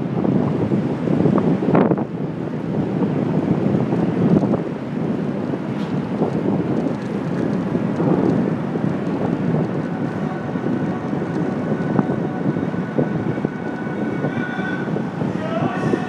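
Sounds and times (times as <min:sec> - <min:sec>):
wind buffeting microphone: 0:00.0 - 0:16.0
rattling road rumble: 0:00.1 - 0:16.0.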